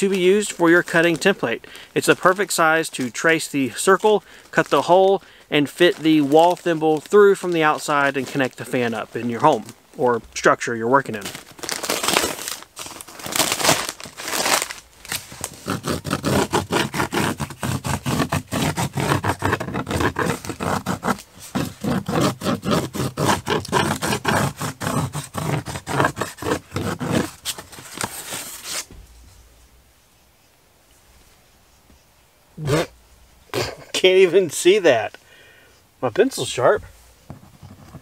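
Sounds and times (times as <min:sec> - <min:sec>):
insulation scraping and crinkling: 0:00.0 - 0:29.6, 0:36.2 - 0:38.0.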